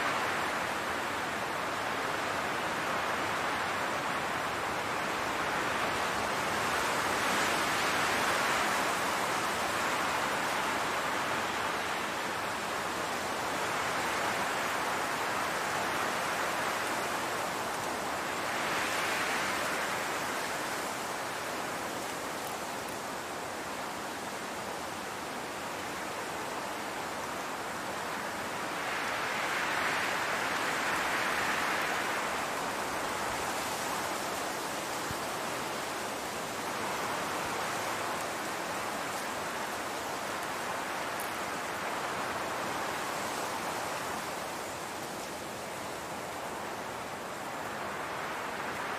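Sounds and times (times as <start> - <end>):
wind blowing across grass: 0.0 - 48.9.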